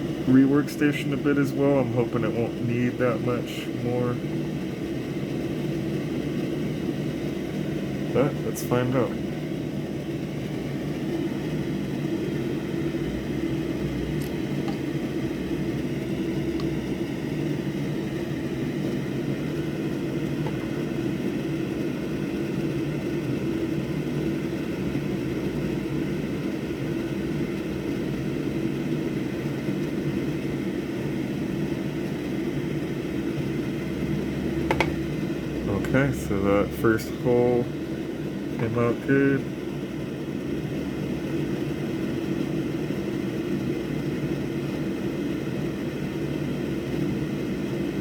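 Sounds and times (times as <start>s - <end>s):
electric whir with low hum: 0.0s - 48.0s.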